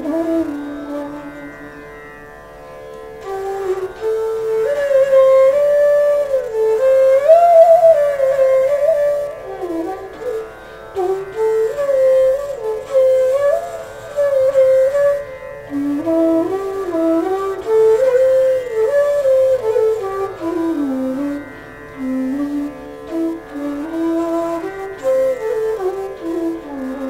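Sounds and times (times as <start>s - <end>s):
bamboo flute melody: 0.0s - 2.1s, 3.1s - 27.0s.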